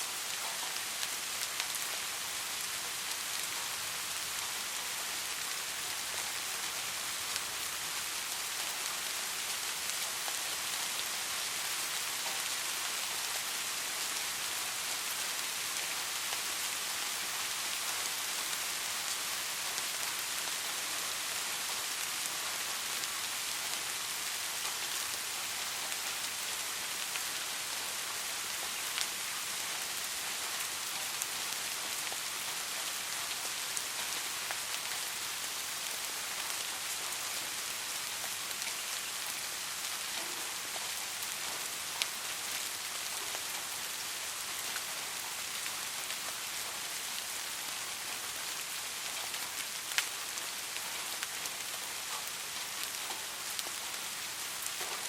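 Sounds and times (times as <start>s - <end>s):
soft rain hiss: 0.0s - 55.0s.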